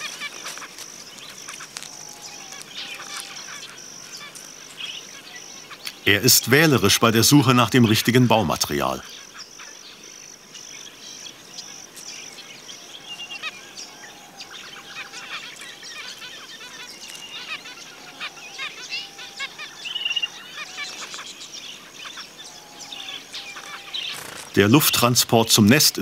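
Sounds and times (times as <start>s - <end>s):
finches chirping: 0.0s - 26.0s
high-pitched background hiss: 0.0s - 26.0s.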